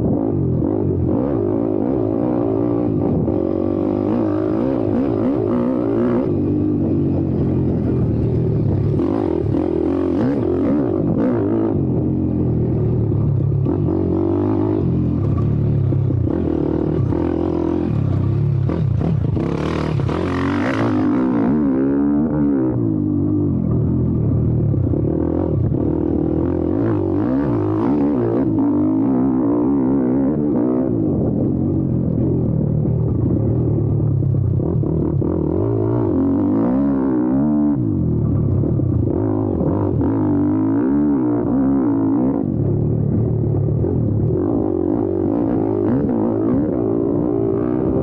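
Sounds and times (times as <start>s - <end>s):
motorbike engine revving: 0.0s - 48.0s.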